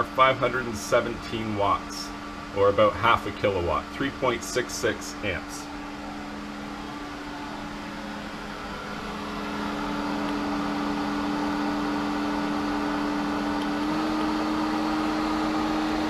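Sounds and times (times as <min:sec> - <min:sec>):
pool pump humming: 0:00.0 - 0:16.0.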